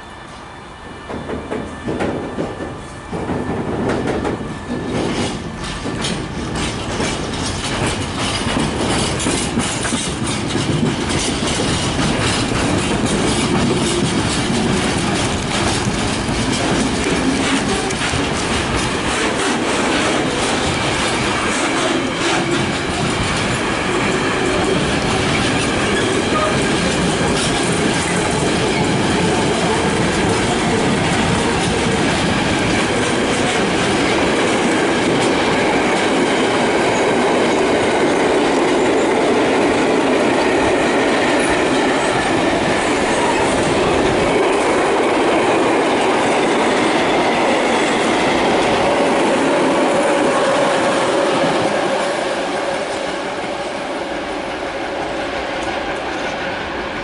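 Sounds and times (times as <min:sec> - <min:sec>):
train wheels clacking on rails: 0:01.1 - 0:57.0.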